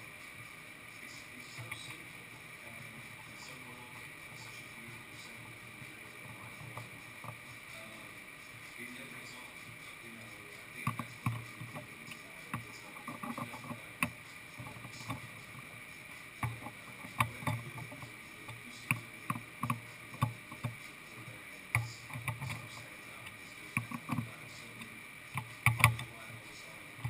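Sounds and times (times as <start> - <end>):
faint high whine: 0.0 - 27.0.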